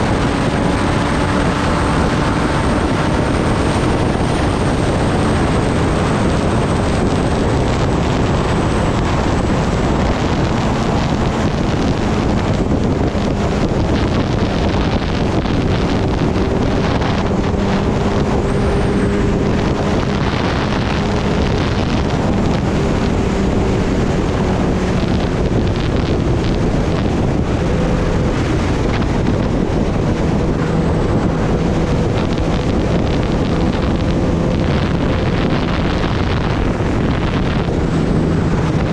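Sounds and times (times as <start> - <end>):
motorcycle engine: 0.0 - 38.9
wind rushing over microphone: 0.0 - 38.9.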